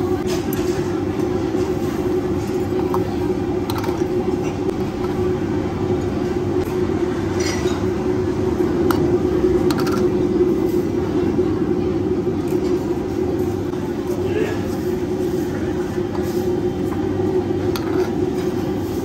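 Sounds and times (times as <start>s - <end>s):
gas burner roaring: 0.0s - 19.0s.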